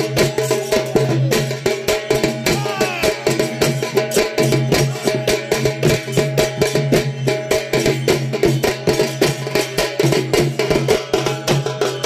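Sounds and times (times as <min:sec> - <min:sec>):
drums beating fast rhythm: 0:00.0 - 0:12.0.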